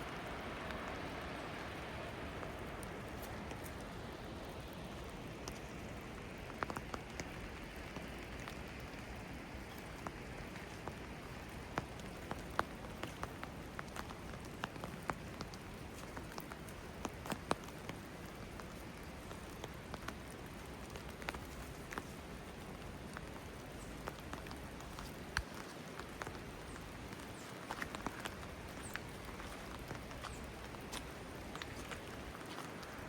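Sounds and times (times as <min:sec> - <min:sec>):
raindrops ticking close by: 0:00.0 - 0:33.0
steady rain: 0:00.0 - 0:33.0.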